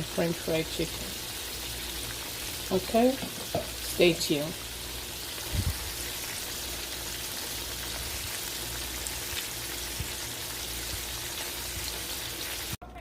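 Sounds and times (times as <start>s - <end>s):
chicken sizzling in hot oil: 0.0s - 12.8s.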